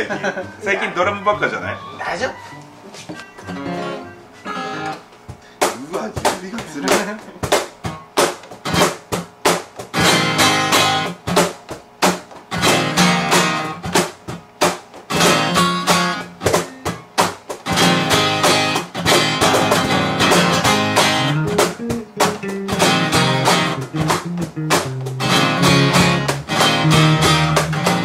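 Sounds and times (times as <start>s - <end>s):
acoustic guitar strumming: 0.0s - 28.0s
electric bass playing: 0.0s - 28.0s.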